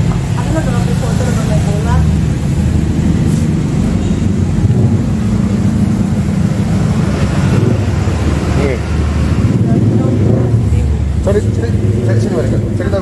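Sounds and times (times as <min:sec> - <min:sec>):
loud low-pitched rumble: 0:00.0 - 0:13.0.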